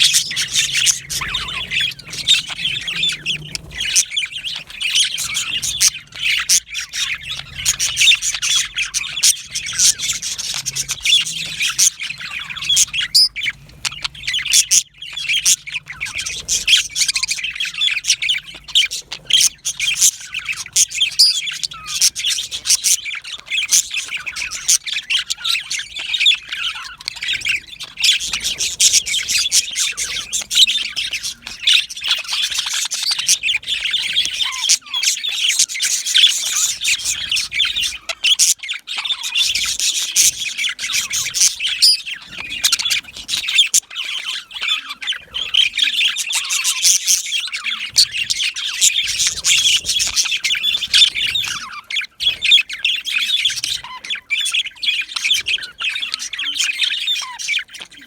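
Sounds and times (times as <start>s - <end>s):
budgerigars chattering and chirping: 0.0s - 58.0s.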